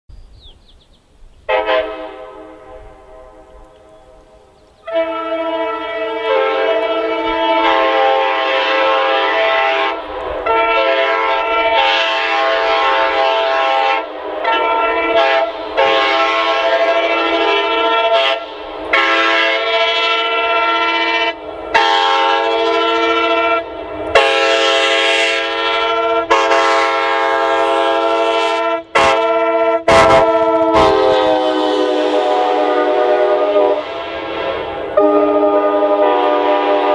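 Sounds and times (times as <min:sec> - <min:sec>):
locomotive air horn blasts: 0:01.5 - 0:36.9.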